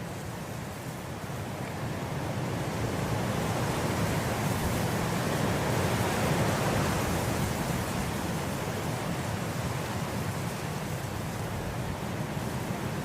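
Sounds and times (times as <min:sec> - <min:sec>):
wind blowing through grass: 0:00.0 - 0:13.0.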